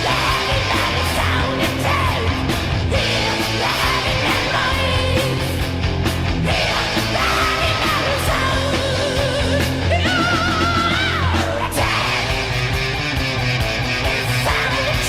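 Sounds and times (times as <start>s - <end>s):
heavy metal band playing: 0.0s - 15.0s
wailing lead guitar: 0.0s - 15.0s.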